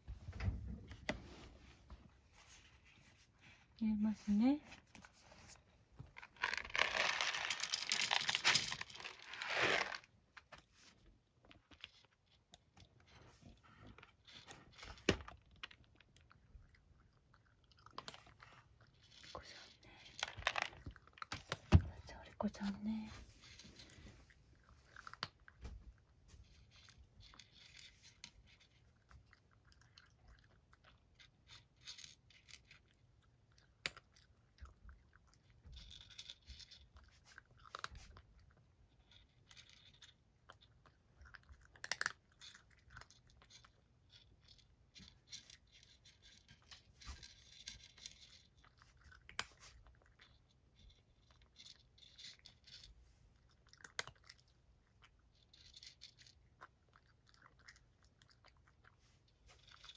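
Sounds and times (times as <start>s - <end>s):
cat chewing dry kibble: 4.8s - 59.9s.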